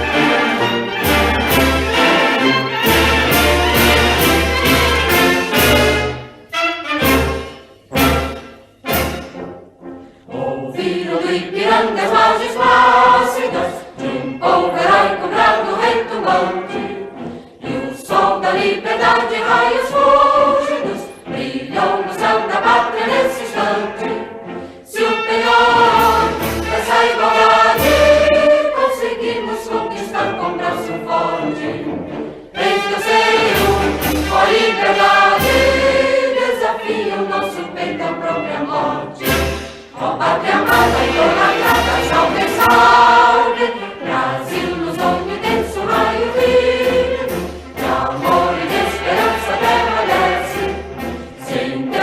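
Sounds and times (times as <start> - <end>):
choir singing with orchestra: 0.0 - 52.0.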